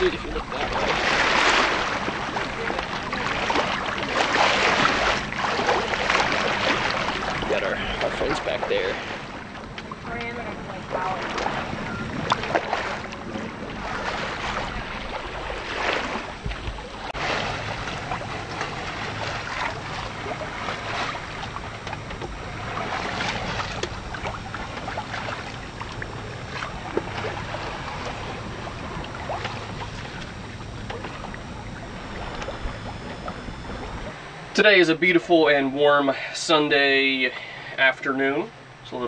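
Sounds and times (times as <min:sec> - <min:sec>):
wind buffeting microphone: 0:00.0 - 0:34.7
faint low hum: 0:00.0 - 0:39.0
water splashing against hull: 0:00.0 - 0:39.0.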